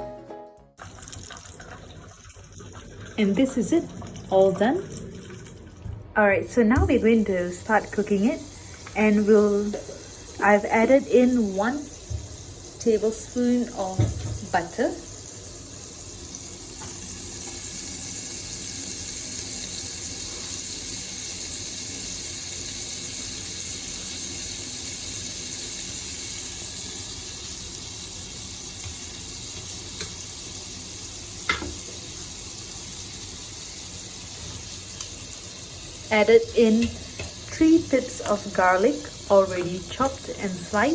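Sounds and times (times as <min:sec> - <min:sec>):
butter sizzling in a pan: 0:06.9 - 0:40.9.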